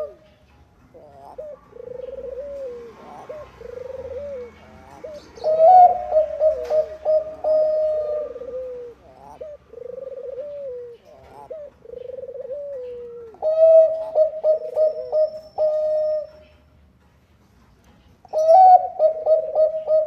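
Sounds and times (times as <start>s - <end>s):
dove cooing: 0.0s - 0.3s, 0.9s - 16.7s, 18.2s - 20.0s.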